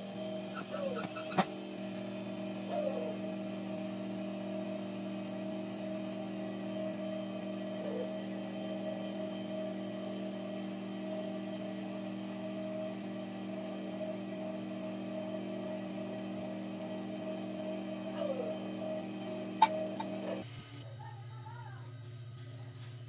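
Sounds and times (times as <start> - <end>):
sewing machine motor humming: 0.0 - 20.8.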